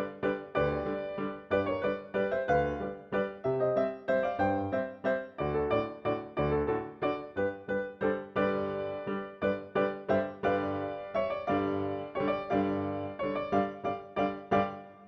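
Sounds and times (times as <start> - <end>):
piano-like keyboard notes: 0.0 - 15.0.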